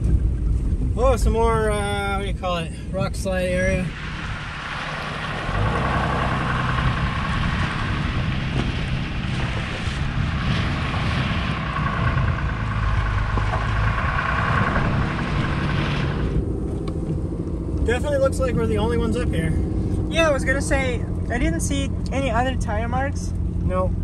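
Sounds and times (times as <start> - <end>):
truck engine and tyre noise: 0.0 - 24.0.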